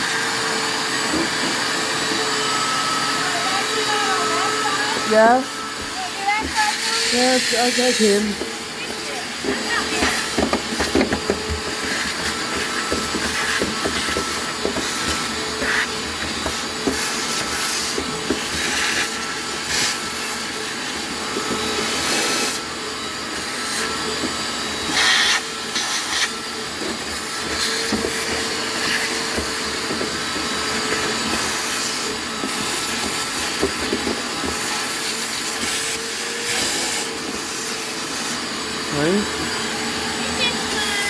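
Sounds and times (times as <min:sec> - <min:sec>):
shop vacuum running: 0:00.0 - 0:41.0.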